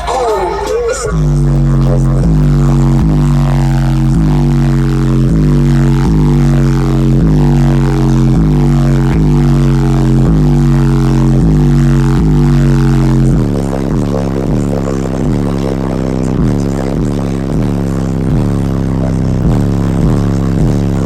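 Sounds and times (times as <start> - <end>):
subwoofer playing deep bass music: 0.0 - 21.0.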